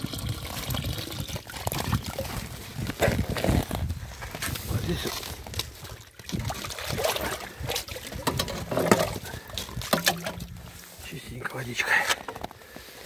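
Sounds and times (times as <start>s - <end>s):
water sloshing in trough with ice: 0.0s - 12.5s.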